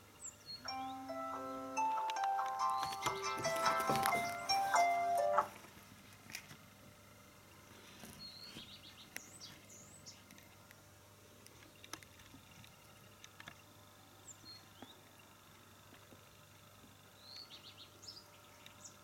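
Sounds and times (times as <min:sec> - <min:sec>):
songbirds chirping: 0:00.0 - 0:05.6, 0:07.4 - 0:19.0.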